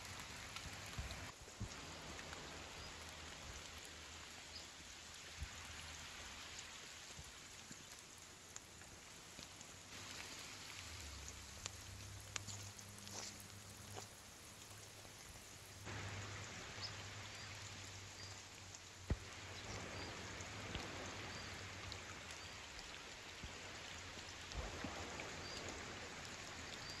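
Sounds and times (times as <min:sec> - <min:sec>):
rain falling on a river: 0:00.0 - 0:27.0.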